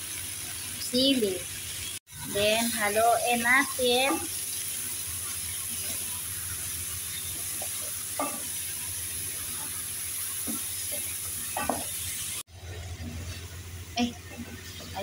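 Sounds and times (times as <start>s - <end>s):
food sizzling in butter: 0.0s - 15.0s.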